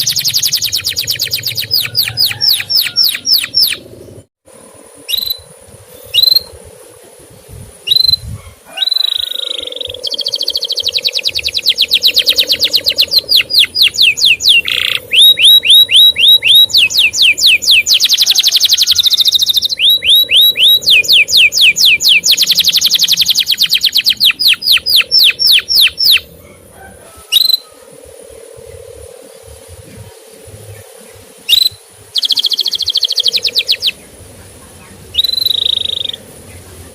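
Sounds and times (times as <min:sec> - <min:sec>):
canary singing: 0:00.0 - 0:04.3, 0:05.0 - 0:06.6, 0:07.8 - 0:36.9.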